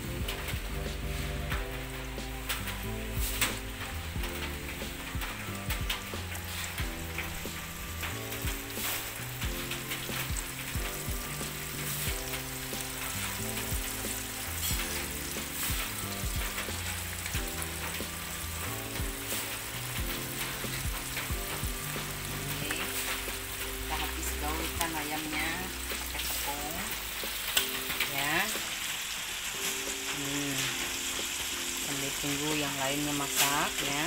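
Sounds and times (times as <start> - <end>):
background music: 0.0 - 34.0
chicken sizzling in hot oil: 0.0 - 34.0.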